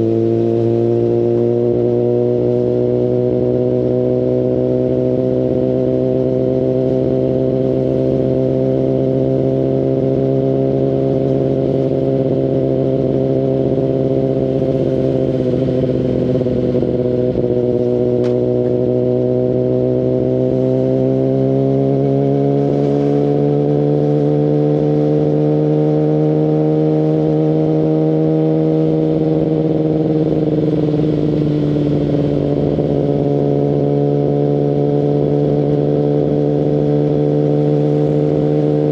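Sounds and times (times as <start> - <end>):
motorcycle engine at low revs: 0.0 - 38.9.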